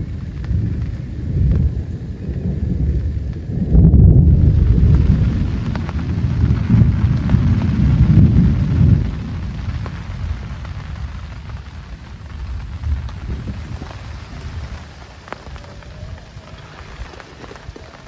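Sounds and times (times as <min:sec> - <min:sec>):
heavy rain: 0:00.0 - 0:18.0
raindrops ticking nearby: 0:00.0 - 0:18.0
thunder clap rumbling: 0:00.0 - 0:18.0.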